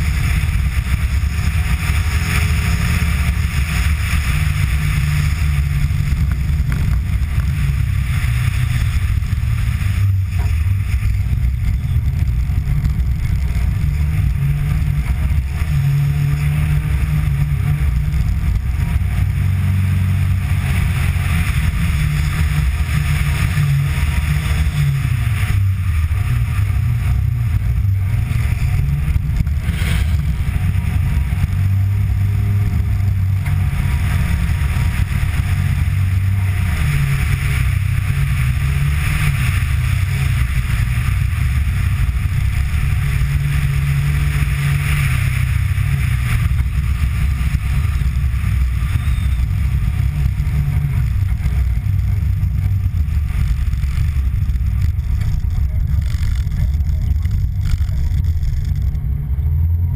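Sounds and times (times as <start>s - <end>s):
rally car engine and road rumble: 0.0s - 59.9s.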